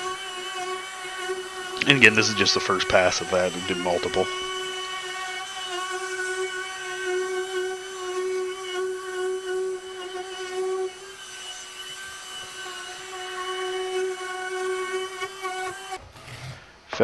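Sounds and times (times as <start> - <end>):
router whining while cutting wood: 0.0 - 16.6.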